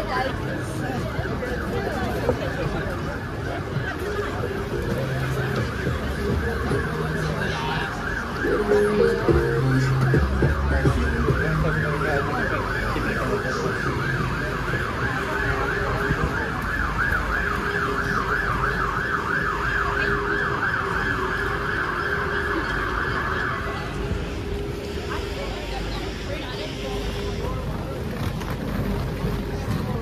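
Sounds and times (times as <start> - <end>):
busy street traffic: 0.0 - 30.0
emergency siren yelping: 0.2 - 24.8.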